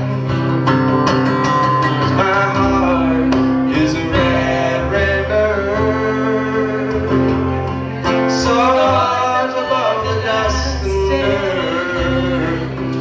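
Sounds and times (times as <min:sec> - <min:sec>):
acoustic guitar strummed: 0:00.0 - 0:13.0
upright bass: 0:00.0 - 0:13.0.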